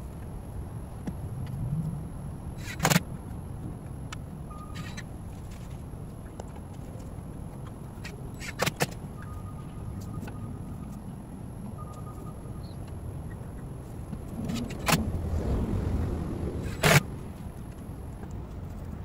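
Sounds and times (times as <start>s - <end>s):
steady low rumble: 0.0s - 8.4s, 9.0s - 19.0s.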